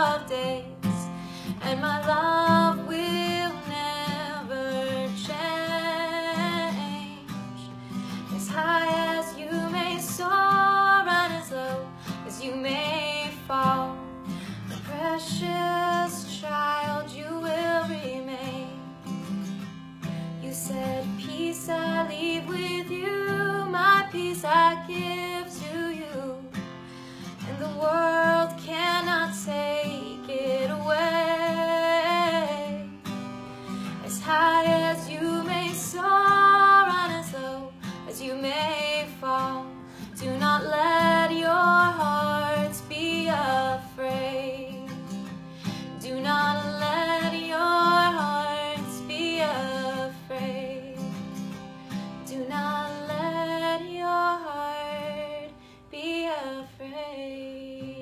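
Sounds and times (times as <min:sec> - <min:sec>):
woman singing slow melody: 0:00.0 - 0:19.4, 0:20.3 - 0:58.0
acoustic guitar: 0:00.0 - 0:58.0.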